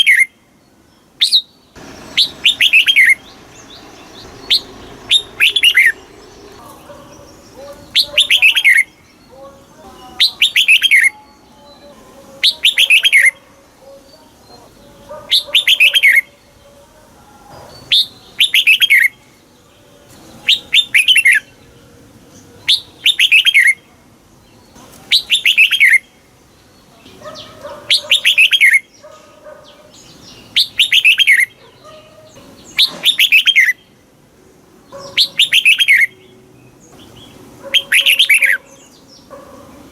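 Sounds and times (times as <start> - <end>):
bird singing falling phrase: 0.0 - 16.8, 17.5 - 34.0, 34.9 - 39.4.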